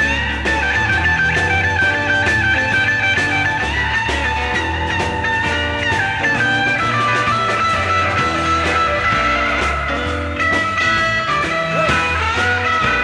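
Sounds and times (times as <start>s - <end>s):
bass line: 0.0s - 13.0s
drums: 0.0s - 13.0s
electric guitar lead notes: 0.0s - 13.0s.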